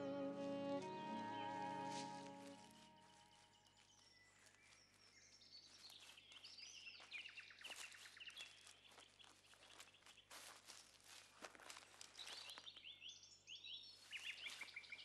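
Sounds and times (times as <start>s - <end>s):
small birds chirping: 0.0s - 15.0s
footsteps on dry leaves: 0.1s - 13.2s, 13.8s - 15.0s.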